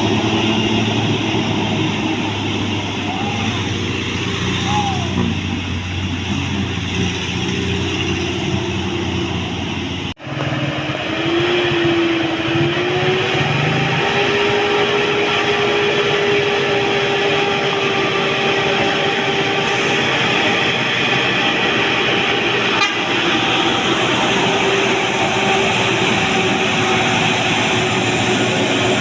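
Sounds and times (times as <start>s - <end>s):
bus running past: 0.0s - 29.0s.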